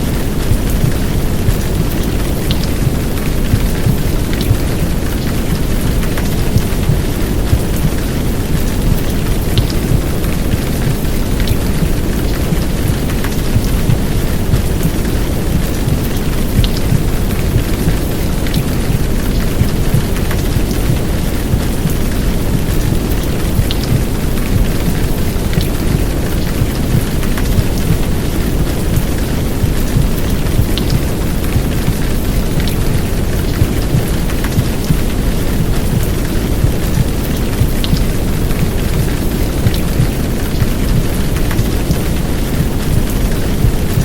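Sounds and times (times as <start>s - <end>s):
heavy rain hissing: 0.0s - 44.0s
low rumbling white noise: 0.0s - 44.0s.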